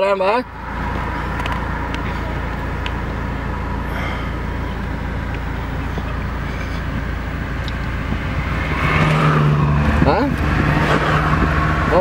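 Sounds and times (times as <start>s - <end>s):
engine hum: 0.0s - 12.0s
road noise inside car: 0.0s - 12.0s.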